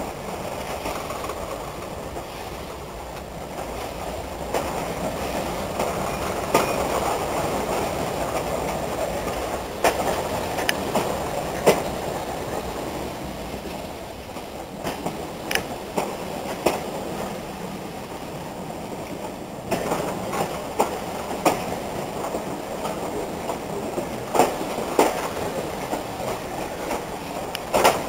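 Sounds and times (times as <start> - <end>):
train wheels rumbling on rail: 0.0 - 28.0
wheels clicking over rail joints: 0.0 - 28.0.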